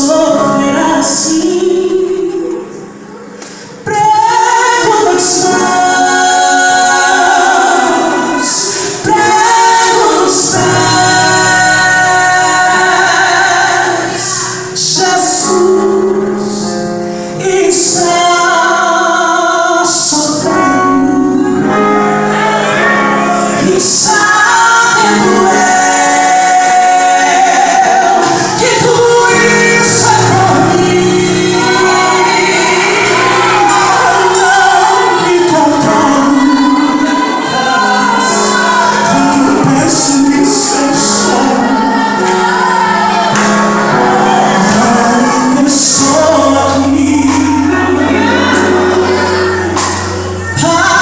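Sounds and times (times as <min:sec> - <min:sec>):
woman singing: 0:00.0 - 0:02.8, 0:03.8 - 0:51.0
instrumental accompaniment: 0:00.0 - 0:51.0.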